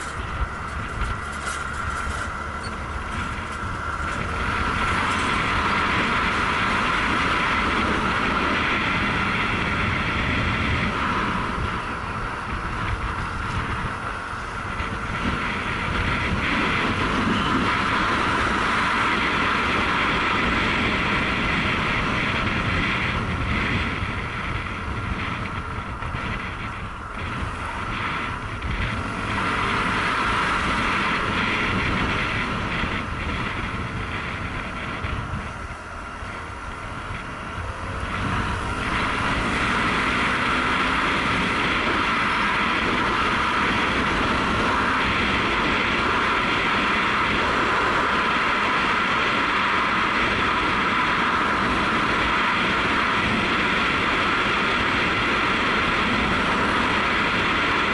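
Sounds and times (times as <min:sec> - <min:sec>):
motorcycle engine running: 0:00.0 - 0:57.9
wind over microphone: 0:00.0 - 0:57.9.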